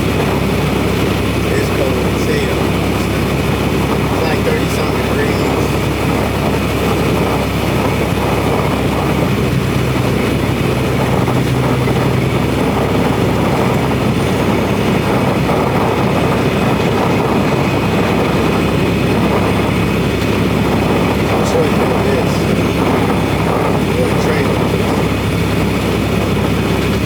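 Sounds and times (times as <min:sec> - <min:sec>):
road noise: 0:00.0 - 0:27.0
truck engine hum: 0:00.0 - 0:27.0.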